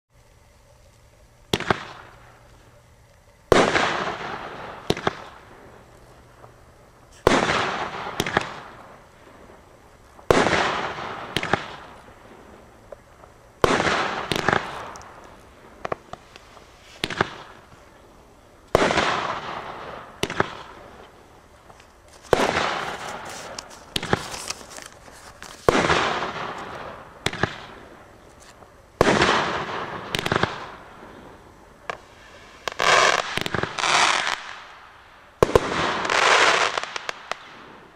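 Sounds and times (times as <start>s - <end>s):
firework burst with hiss: 0.2s - 37.9s.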